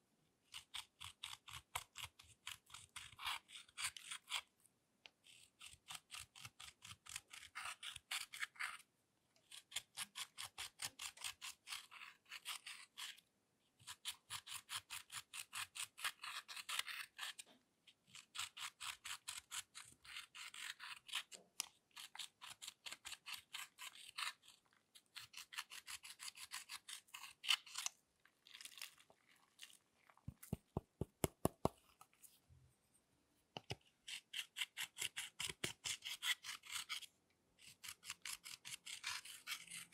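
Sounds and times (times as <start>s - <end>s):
tool scraping eyeshadow powder: 0.4s - 4.5s, 5.2s - 13.2s, 13.8s - 32.0s, 33.7s - 39.9s.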